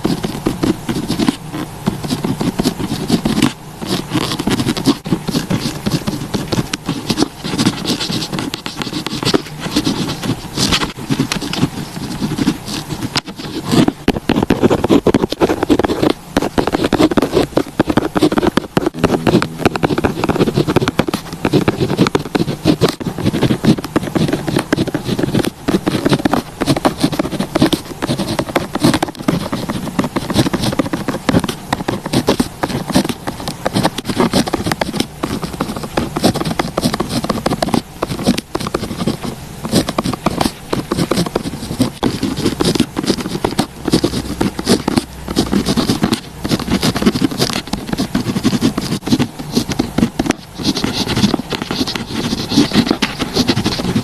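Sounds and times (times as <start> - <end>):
pen writing on paper: 0.0 - 54.0.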